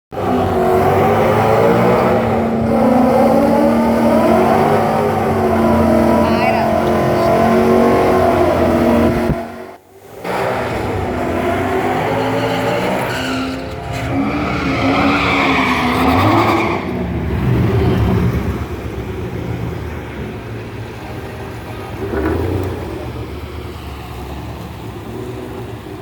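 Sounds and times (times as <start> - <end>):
racing car engines at full throttle: 0.1 - 26.0.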